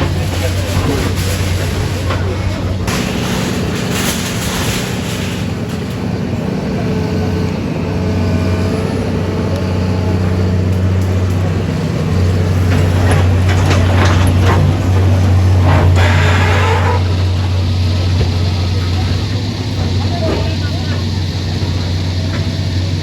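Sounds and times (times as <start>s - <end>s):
heavy engine droning: 0.0s - 23.0s.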